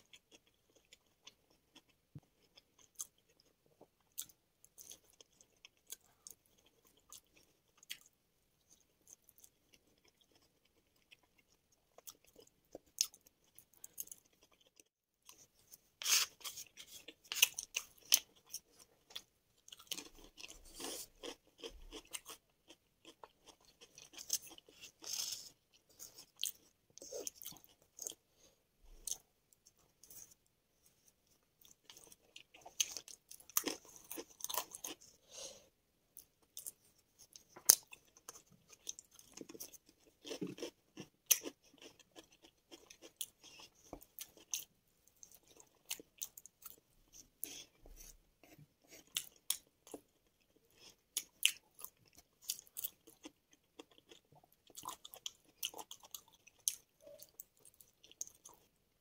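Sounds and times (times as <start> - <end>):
chewing and crunching: 0.0 - 35.2, 36.2 - 58.8.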